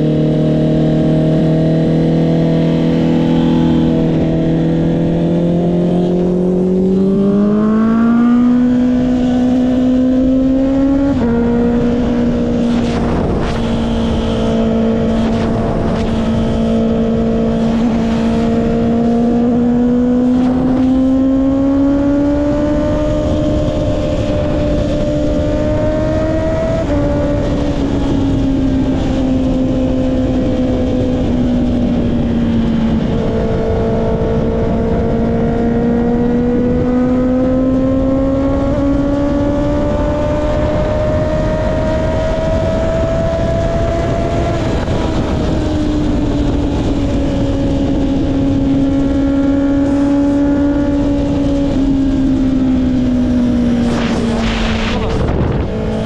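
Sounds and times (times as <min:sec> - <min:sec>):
motorcycle engine while riding: 0:00.0 - 0:56.0
wind rushing over camera: 0:00.0 - 0:56.0.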